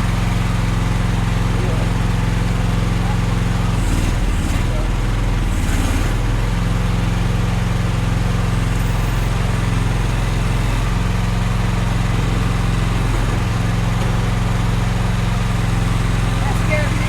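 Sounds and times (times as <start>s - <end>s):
mini excavator engine running: 0.0s - 17.0s.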